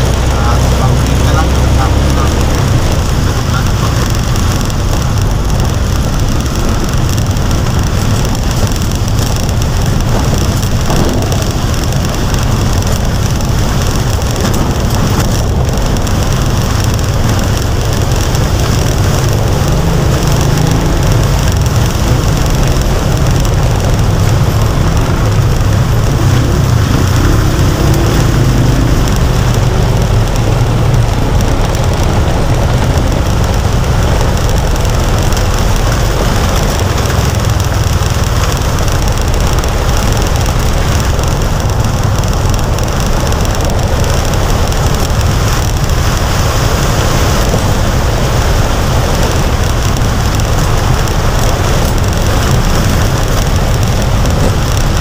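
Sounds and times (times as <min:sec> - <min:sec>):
rain and water hiss on road: 0:00.0 - 0:55.0
vehicle driving rumble: 0:00.0 - 0:55.0.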